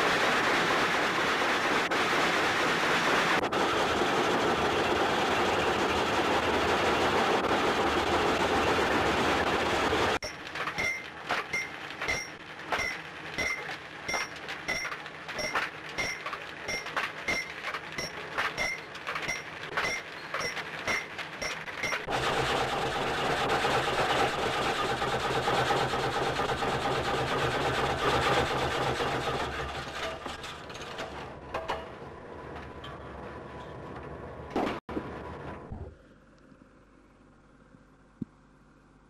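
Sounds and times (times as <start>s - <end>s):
sawmill machinery clacking: 0.0s - 34.2s
loud dense machine noise: 0.0s - 37.6s.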